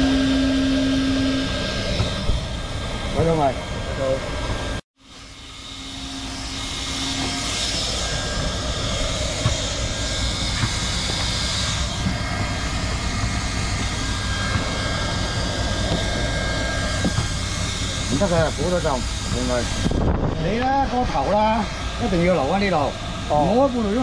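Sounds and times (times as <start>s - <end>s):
hot-air welding gun blower hissing: 0.0s - 24.0s.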